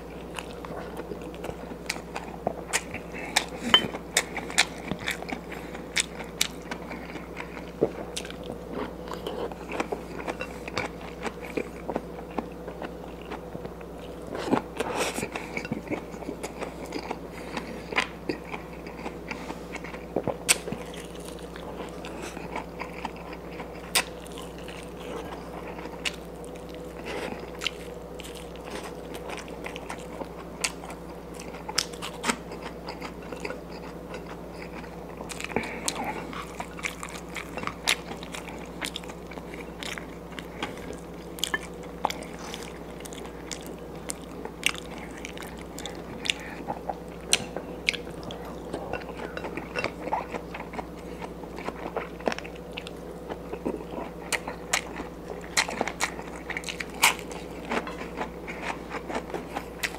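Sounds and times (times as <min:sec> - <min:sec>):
faint steady hum: 0:00.0 - 0:59.9
person chewing: 0:00.0 - 0:59.9.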